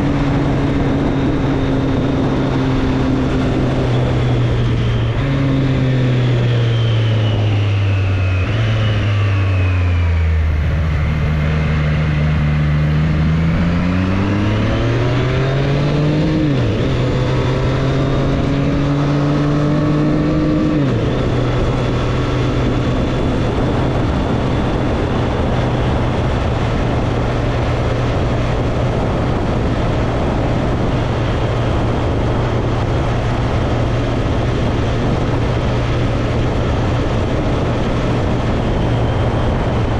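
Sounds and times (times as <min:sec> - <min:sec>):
motorcycle engine shifting gears: 0:00.0 - 0:39.9
wind noise: 0:00.0 - 0:39.9.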